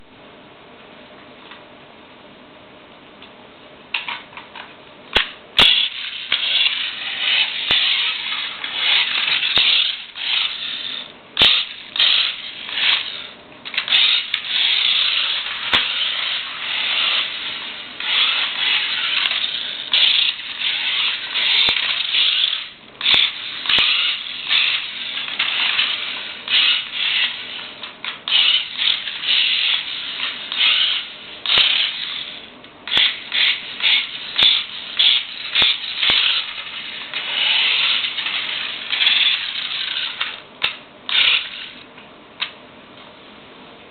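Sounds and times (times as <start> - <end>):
radio-controlled car whirring: 5.6 - 41.9.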